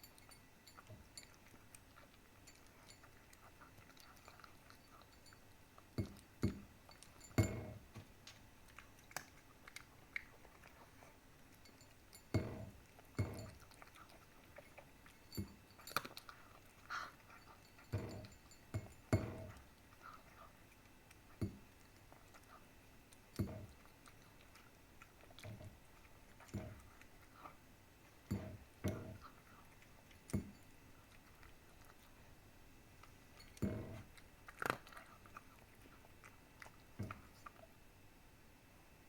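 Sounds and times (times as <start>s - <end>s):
cat crunching food: 0.2s - 37.7s.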